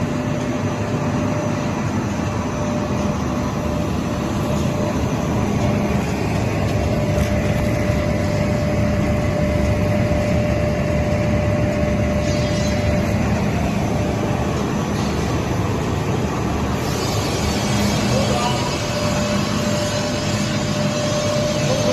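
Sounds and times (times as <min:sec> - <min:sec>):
industrial machinery droning: 0:00.0 - 0:21.9.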